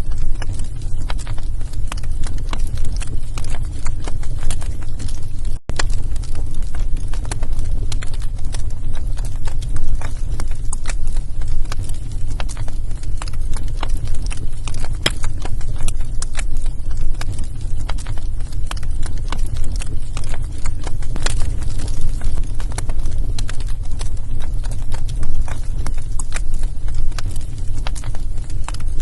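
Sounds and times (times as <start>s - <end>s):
low rumble: 0.0s - 29.0s
wood fire crackling: 0.0s - 29.0s.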